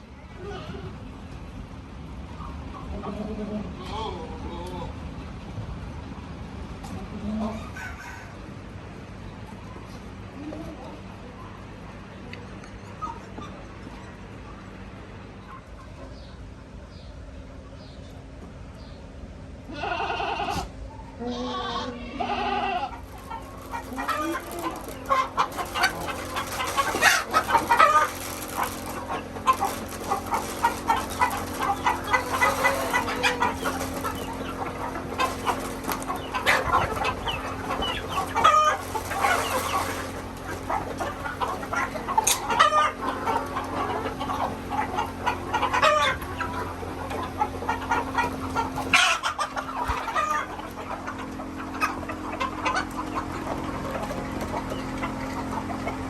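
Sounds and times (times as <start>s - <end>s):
chickens clucking: 0.0s - 5.3s, 6.1s - 56.0s
steady low hum: 8.4s - 56.0s.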